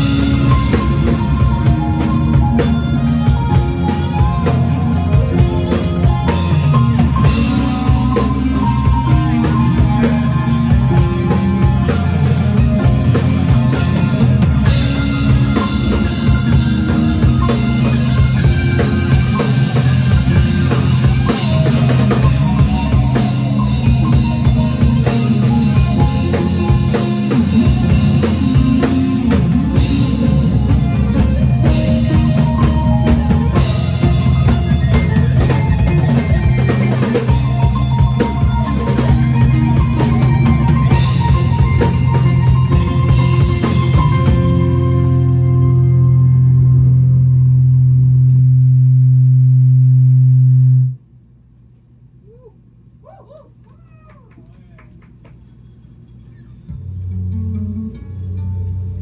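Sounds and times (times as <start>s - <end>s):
drum kit: 0.0s - 50.9s
band music: 0.0s - 51.0s, 56.0s - 59.0s.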